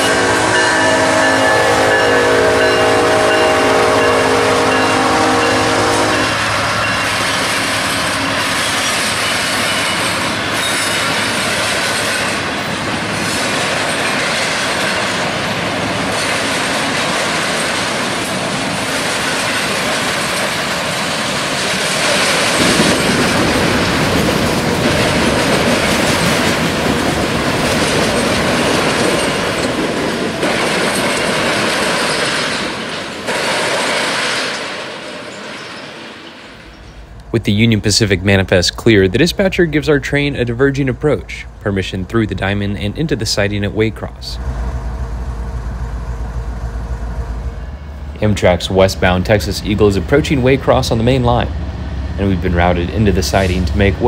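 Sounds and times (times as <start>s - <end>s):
model diesel locomotives: 0.0s - 54.0s
wheels on rails: 6.3s - 54.0s.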